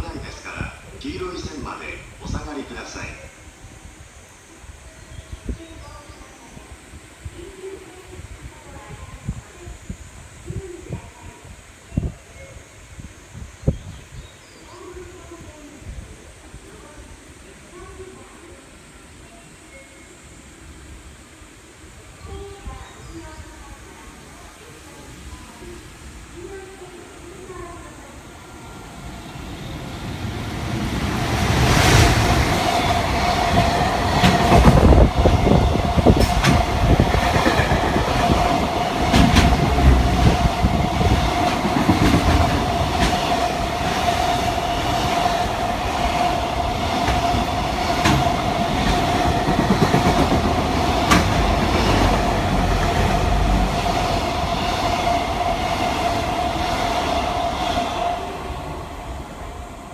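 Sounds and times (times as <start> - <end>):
electric locomotive passing: 0.0 - 59.9.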